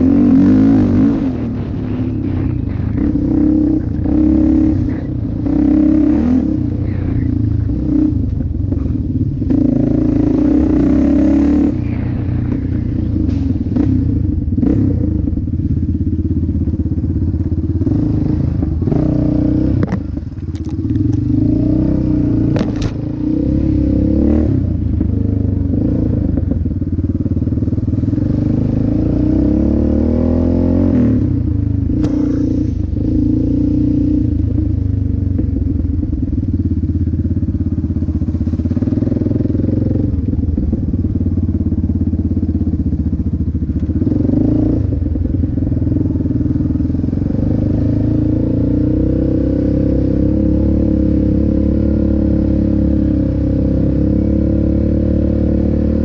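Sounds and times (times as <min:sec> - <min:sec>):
quad bike engine revving: 0:00.0 - 0:16.8, 0:17.4 - 0:36.1, 0:37.0 - 0:56.0.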